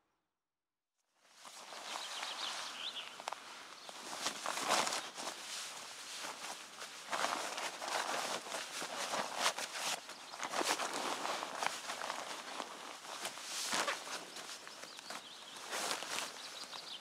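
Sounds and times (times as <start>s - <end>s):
synthetic fabric rustling: 1.6s - 16.4s.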